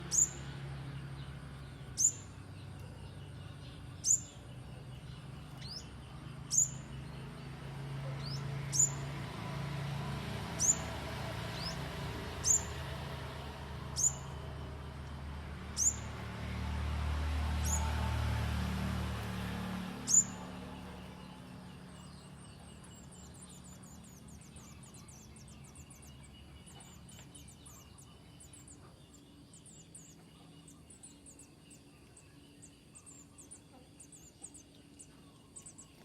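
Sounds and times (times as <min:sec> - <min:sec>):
small bird chipping: 0:00.0 - 0:09.5, 0:10.4 - 0:16.3, 0:19.1 - 0:36.0.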